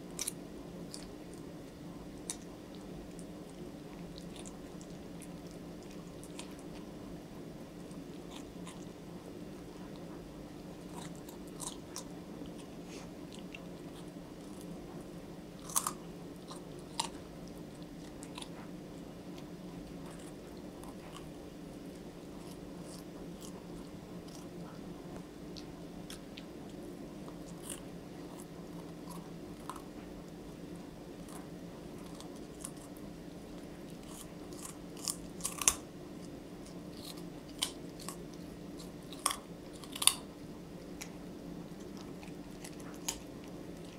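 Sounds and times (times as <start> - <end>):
animal gnawing a carrot: 0.0 - 43.9
steady low hum: 0.0 - 43.9.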